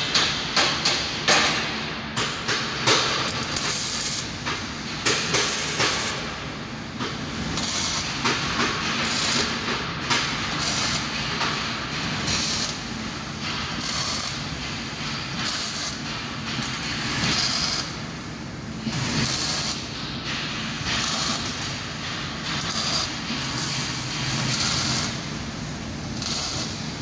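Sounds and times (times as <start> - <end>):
welding arc hissing and crackling: 0.0 - 27.0.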